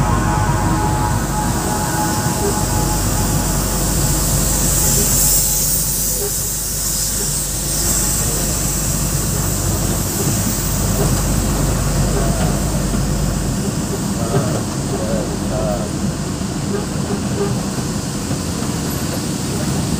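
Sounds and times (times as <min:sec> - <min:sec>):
heavy machinery rumble: 0:00.0 - 0:19.9
hiss: 0:00.2 - 0:19.9.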